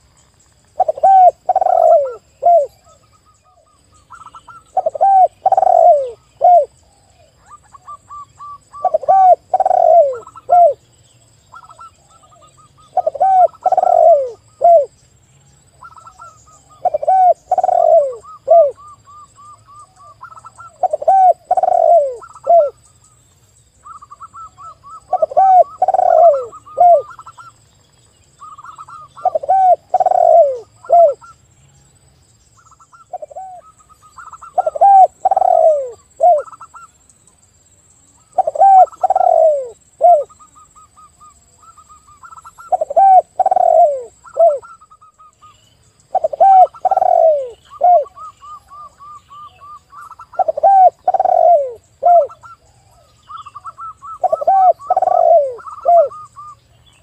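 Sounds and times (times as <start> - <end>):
doves cooing: 0.8 - 10.8, 11.5 - 14.9, 15.8 - 22.8, 23.8 - 27.6, 28.4 - 31.4, 32.6 - 36.9, 38.2 - 56.6.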